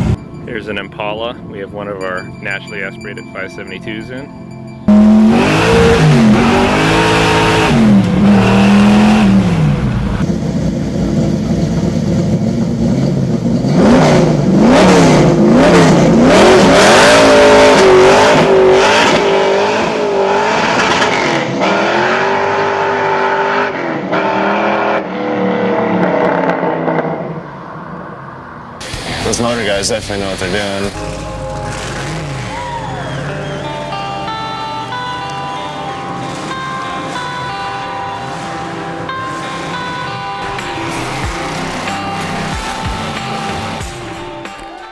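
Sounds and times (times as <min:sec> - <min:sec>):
car engine revving hard: 0:04.9 - 0:44.9.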